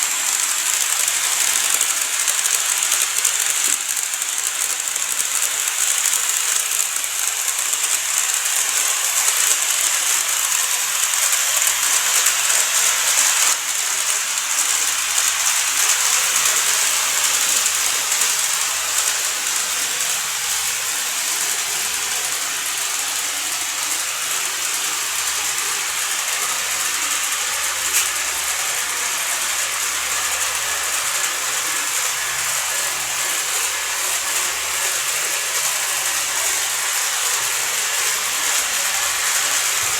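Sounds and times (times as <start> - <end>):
model train whirring on track: 0.0 - 39.9.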